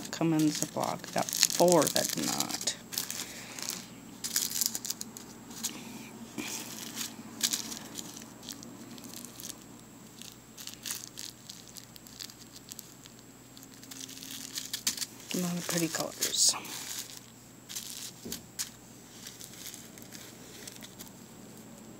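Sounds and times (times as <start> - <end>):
plastic bags crinkling: 0.0 - 21.7.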